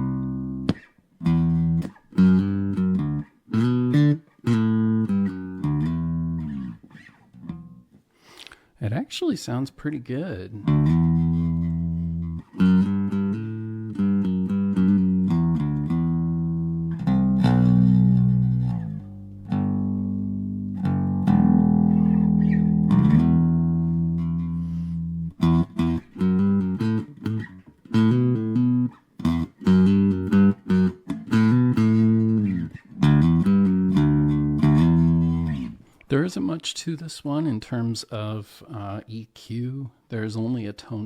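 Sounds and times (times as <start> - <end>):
electric bass notes: 0.0 - 7.9, 10.6 - 36.6.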